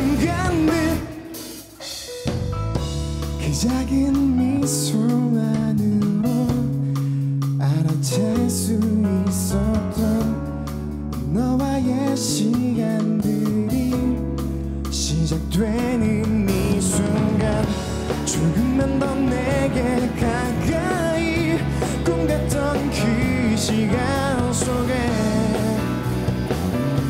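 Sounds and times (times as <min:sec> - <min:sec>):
man singing: 0:00.0 - 0:01.7, 0:03.4 - 0:26.6
electric guitars: 0:00.0 - 0:13.2, 0:14.3 - 0:27.0
bass guitar: 0:00.0 - 0:27.0
drum kit: 0:00.0 - 0:27.0.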